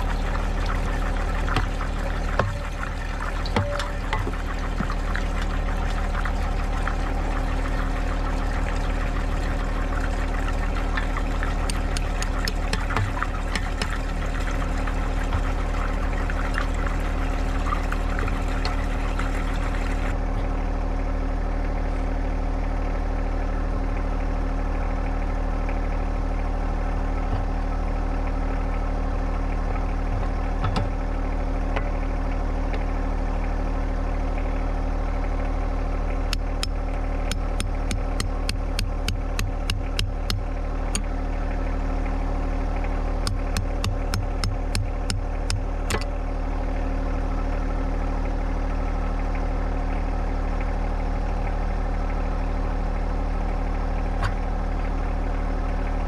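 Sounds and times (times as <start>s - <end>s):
tractor diesel engine running: 0.0s - 22.8s, 26.2s - 53.0s.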